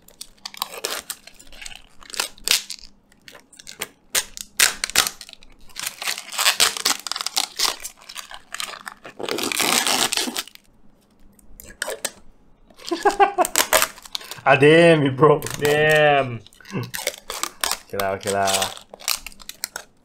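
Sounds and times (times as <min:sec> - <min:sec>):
plastic film crackling: 0:00.0 - 0:10.7, 0:11.8 - 0:20.0.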